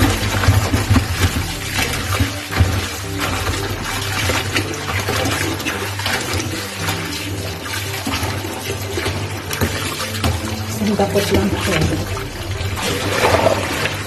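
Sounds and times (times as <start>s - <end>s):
hands rinsing leaves in water: 0.0s - 14.0s
tap water running into bowl: 0.0s - 14.0s.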